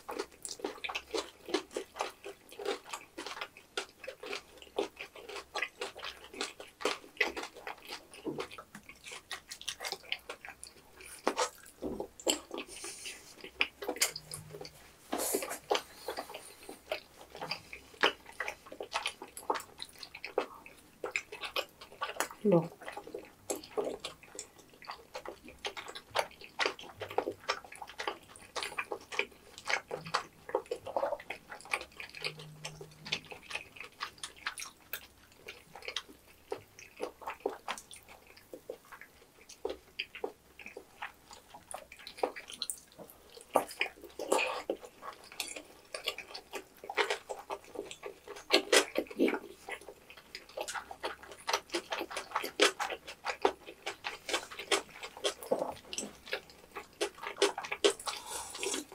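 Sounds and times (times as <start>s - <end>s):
wet sticky chewing: 0.0s - 58.9s.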